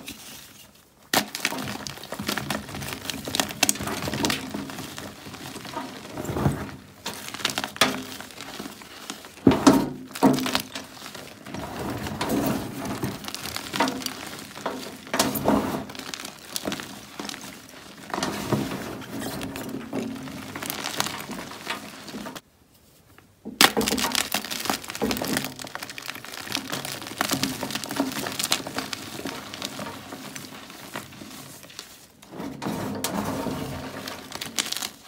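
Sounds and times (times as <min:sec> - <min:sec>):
chalk crunching and cracking: 0:00.0 - 0:22.4, 0:23.6 - 0:35.0.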